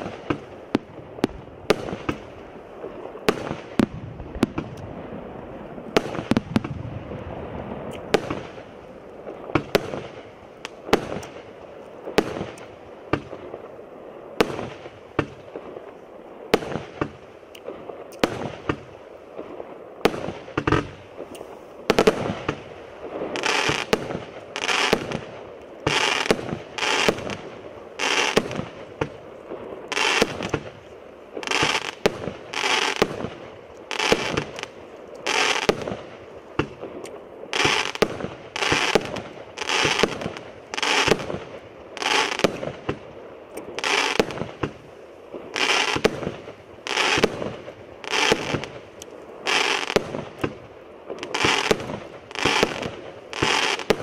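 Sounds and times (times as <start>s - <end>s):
firework bursts: 0.0s - 54.0s.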